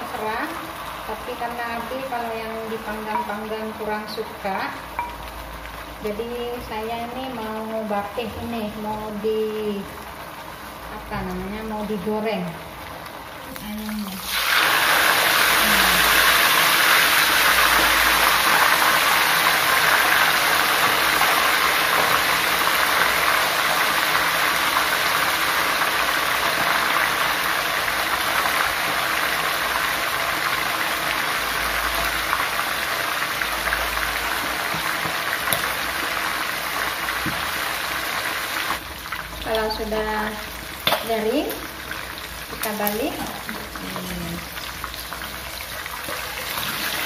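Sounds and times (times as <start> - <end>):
chicken deep-frying in oil: 0.0 - 47.0.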